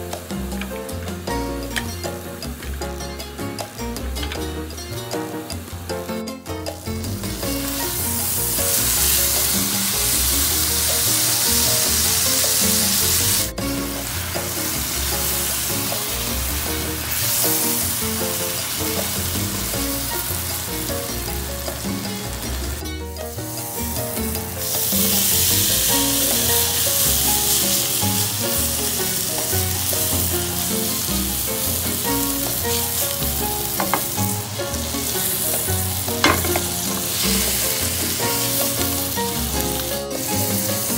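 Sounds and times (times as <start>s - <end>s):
steak sizzling in a pan: 0.0s - 40.9s.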